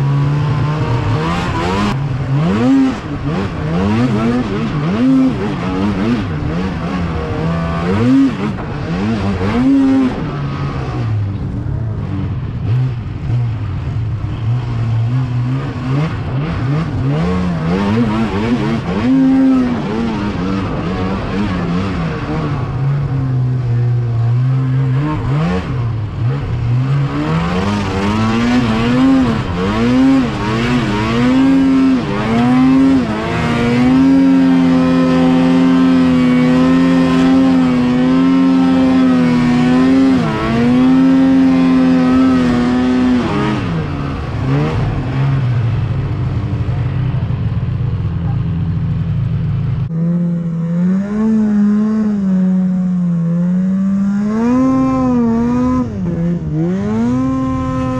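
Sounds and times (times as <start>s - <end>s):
snowmobile engine revving: 0.0s - 47.0s, 49.8s - 57.9s.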